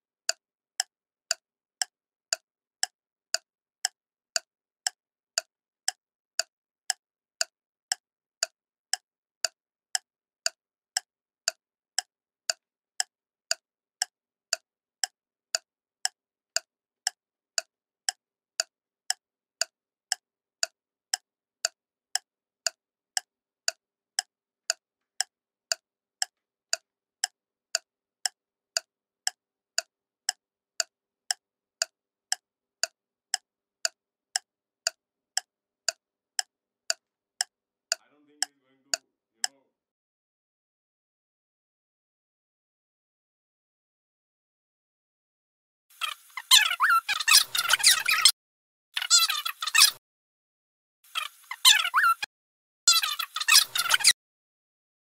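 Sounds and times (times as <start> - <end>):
clock ticking: 0.0 - 39.6, 46.0 - 48.3, 51.1 - 52.3, 52.9 - 54.2.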